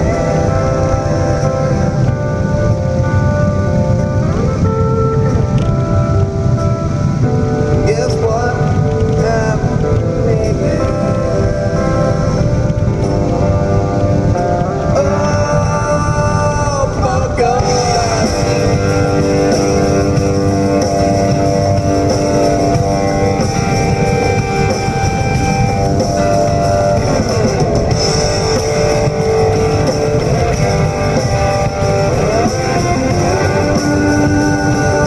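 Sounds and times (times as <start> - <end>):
guitar rock music: 0.0 - 35.0.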